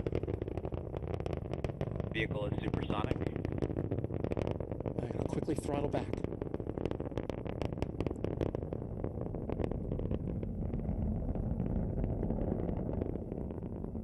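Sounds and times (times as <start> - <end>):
rocket rumble with crackling: 0.0 - 14.0.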